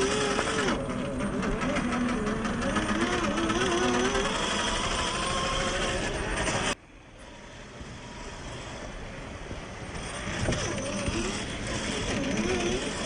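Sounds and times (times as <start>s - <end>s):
toy car motor whining: 0.0s - 9.2s, 9.9s - 13.0s.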